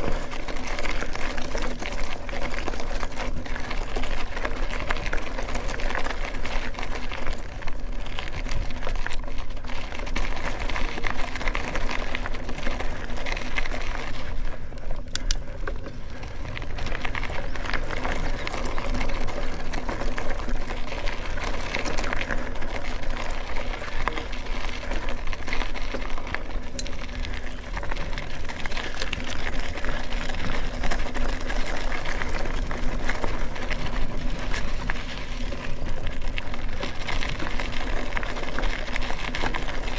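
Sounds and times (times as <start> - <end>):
bike tyres crunching on gravel: 0.0 - 39.9.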